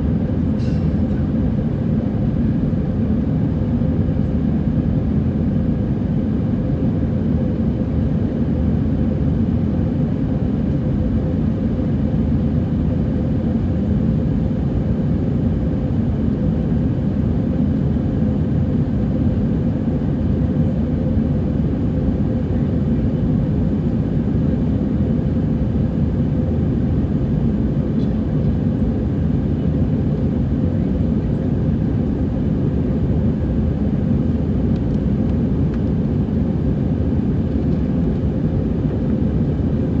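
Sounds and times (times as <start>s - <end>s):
airplane cabin engine roar: 0.0s - 40.0s.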